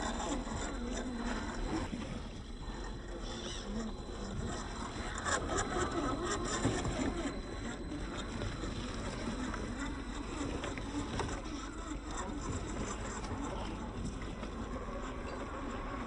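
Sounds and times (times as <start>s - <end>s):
small motor and gears whirring: 0.0s - 16.0s.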